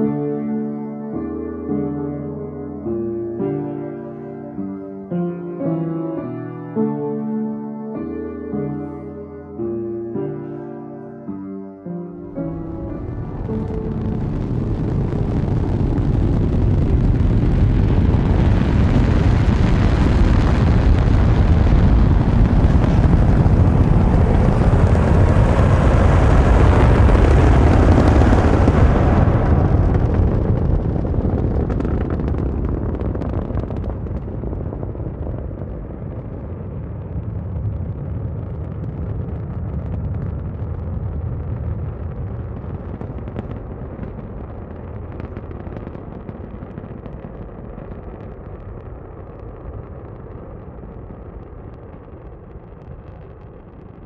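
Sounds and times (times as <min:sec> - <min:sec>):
deep rumble: 0:00.0 - 0:54.0.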